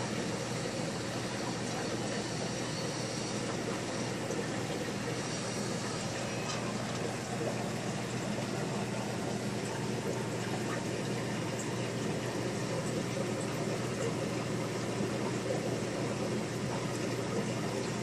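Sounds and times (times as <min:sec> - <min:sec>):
aquarium air pump humming: 0:00.0 - 0:18.0
bubbling water: 0:00.0 - 0:18.0.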